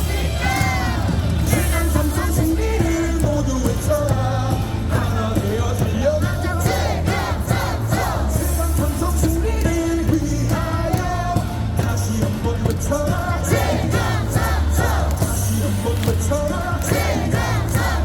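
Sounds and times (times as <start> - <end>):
cheer song over loudspeakers: 0.0 - 18.0
crowd singing and shouting: 0.0 - 18.0.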